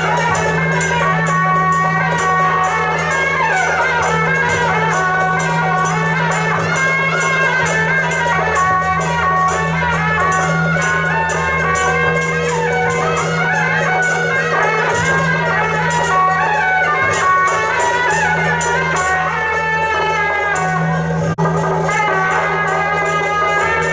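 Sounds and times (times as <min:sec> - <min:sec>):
fast percussion beat: 0:00.0 - 0:23.9
gliding wind instrument melody: 0:00.0 - 0:23.9.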